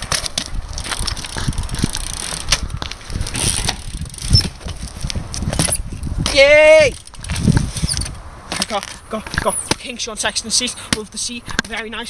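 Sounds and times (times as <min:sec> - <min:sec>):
bike knocks and rattles: 0:00.0 - 0:12.0
bike tyre noise: 0:00.0 - 0:12.0.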